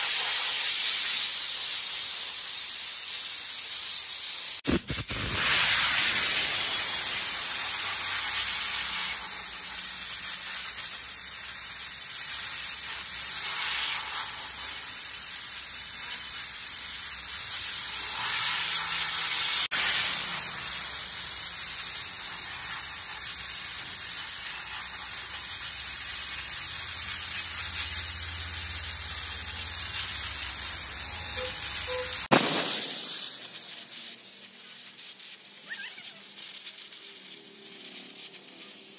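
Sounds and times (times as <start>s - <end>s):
steam hissing from wash gun: 0.0s - 38.9s.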